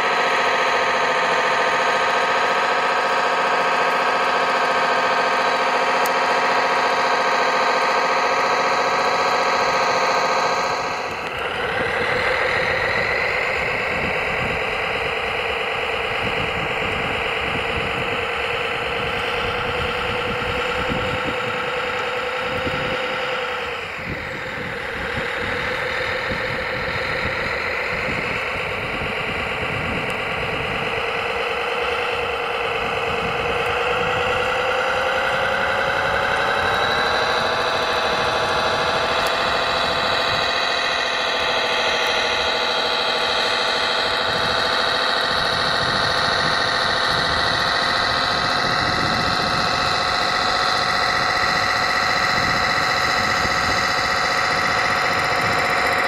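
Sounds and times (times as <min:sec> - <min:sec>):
rattle: 0:00.0 - 0:56.0
toy bulldozer drive whine: 0:00.0 - 0:56.0.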